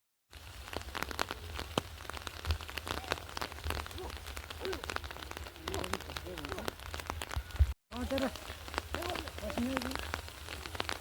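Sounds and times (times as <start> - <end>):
raindrops striking nearby: 0.3 - 11.0.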